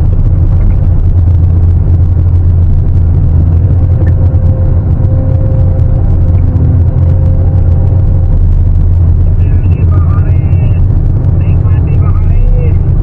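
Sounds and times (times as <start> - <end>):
excavator diesel engine running: 0.0 - 13.0
faint steady whine: 0.0 - 13.0.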